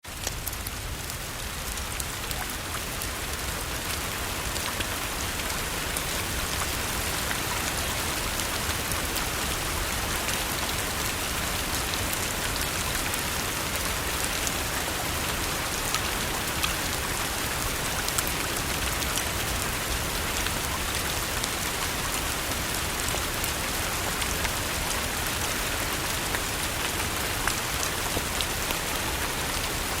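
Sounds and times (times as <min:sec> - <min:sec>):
steady rain hiss: 0:00.1 - 0:30.0.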